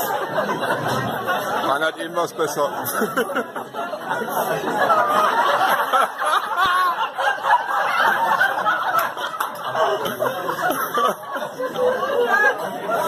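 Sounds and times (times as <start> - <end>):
chatter: 0.0 - 13.0
people laughing and giggling: 0.0 - 13.0.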